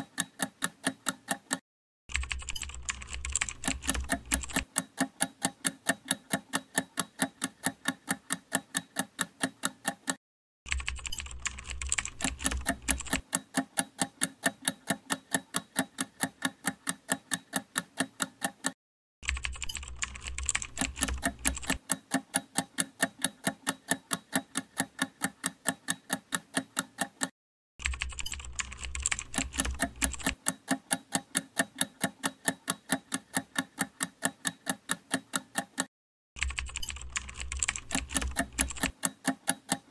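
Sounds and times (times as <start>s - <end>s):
timer ticking: 0.0s - 1.6s, 2.4s - 10.2s, 11.9s - 18.8s, 19.6s - 27.3s, 28.2s - 35.9s, 36.8s - 39.9s.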